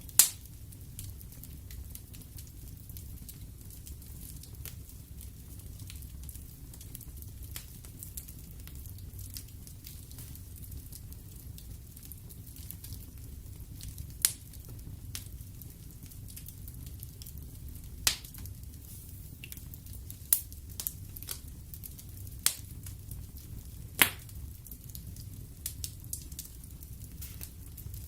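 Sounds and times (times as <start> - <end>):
fire flames rumbling: 0.0 - 28.0
logs crackling and popping: 0.0 - 28.0.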